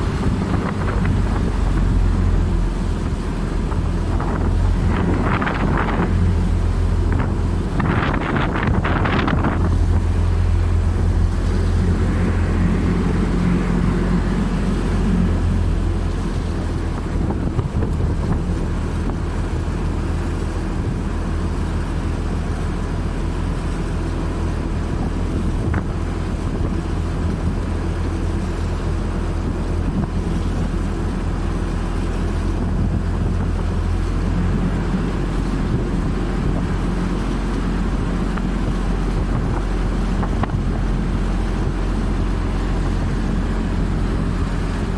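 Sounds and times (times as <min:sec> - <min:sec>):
low engine drone: 0:00.0 - 0:44.9
wind buffeting microphone: 0:00.0 - 0:44.9.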